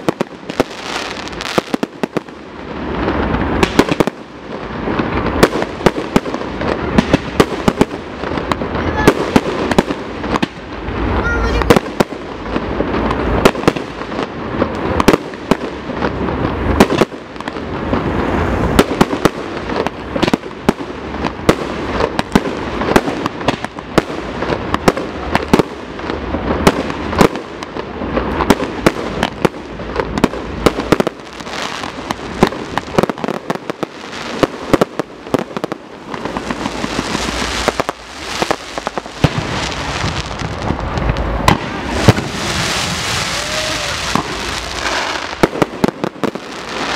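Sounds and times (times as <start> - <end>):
fireworks bangs: 0.0 - 46.9
fireworks crackling: 0.0 - 46.9.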